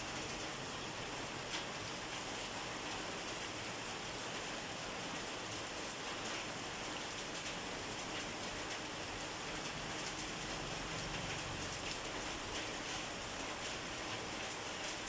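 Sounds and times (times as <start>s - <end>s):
rain falling on a surface: 0.0s - 15.0s.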